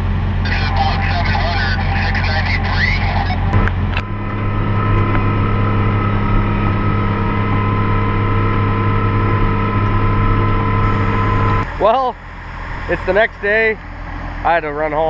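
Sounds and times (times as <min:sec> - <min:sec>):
low engine drone: 0:00.0 - 0:15.0
steady high whine: 0:00.0 - 0:15.0.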